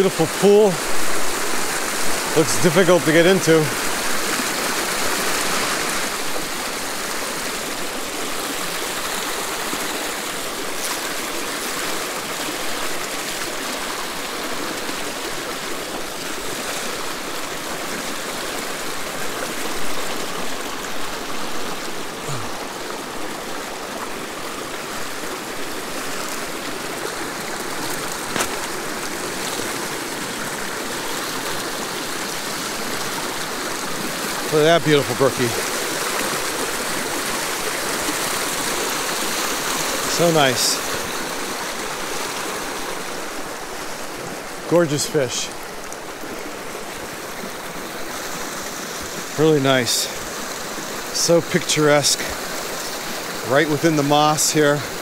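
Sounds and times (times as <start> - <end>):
mountain stream running: 0.0 - 55.0.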